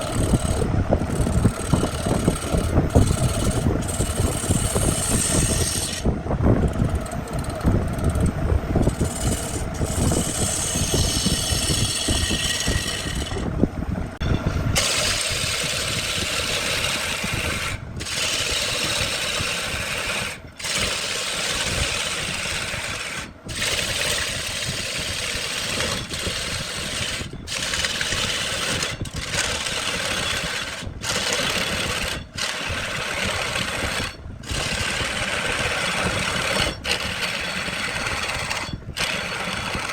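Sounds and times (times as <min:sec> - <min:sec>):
heavy low rumble of power tools: 0:00.0 - 0:39.9.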